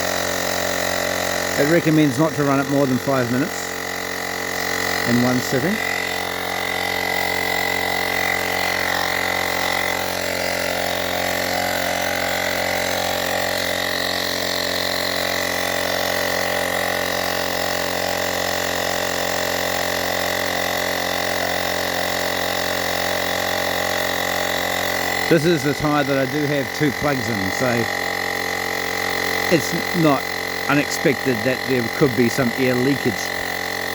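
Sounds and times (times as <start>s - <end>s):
tyre inflator compressor buzzing: 0.0s - 33.9s.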